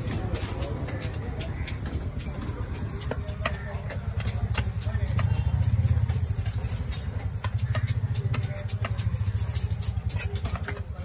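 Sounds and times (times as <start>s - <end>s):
engine idling: 0.2s - 11.0s.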